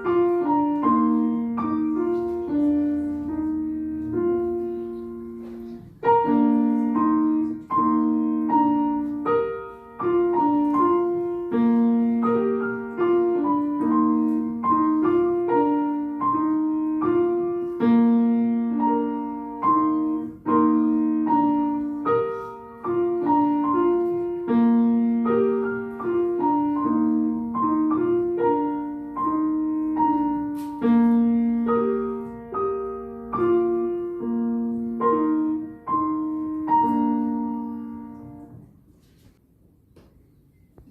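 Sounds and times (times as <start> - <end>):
solo piano melody: 0.0 - 39.4.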